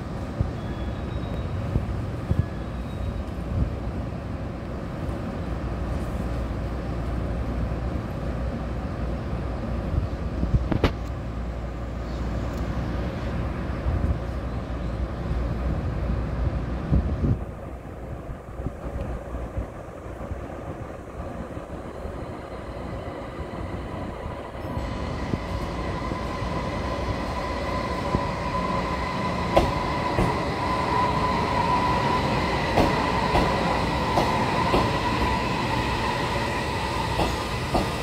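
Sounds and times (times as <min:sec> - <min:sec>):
electric train rumbling: 0:00.0 - 0:38.0.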